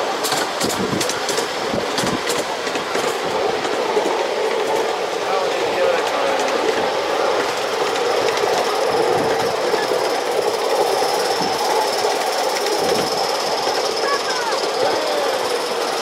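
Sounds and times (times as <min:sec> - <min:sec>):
small wheels rattling on rails: 0:00.0 - 0:16.0.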